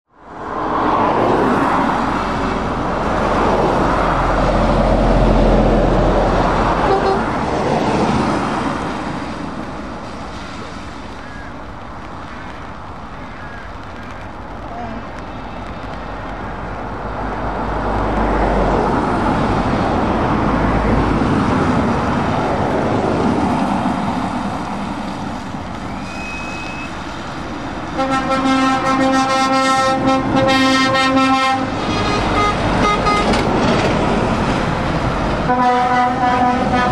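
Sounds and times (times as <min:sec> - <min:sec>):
diesel lorry engines: 0:00.1 - 0:36.9
tyres hissing on wet road: 0:00.1 - 0:36.9.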